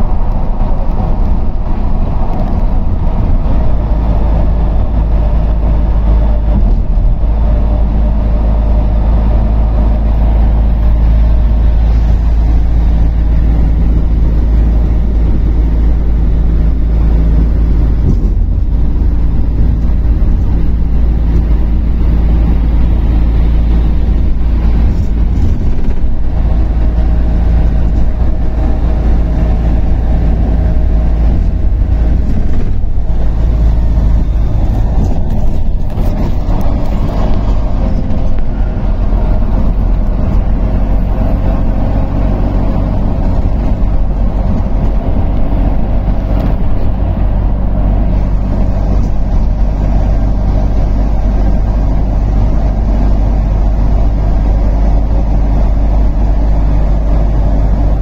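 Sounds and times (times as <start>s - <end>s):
bus engine running: 0.0s - 58.0s
tyre and road noise: 0.0s - 58.0s.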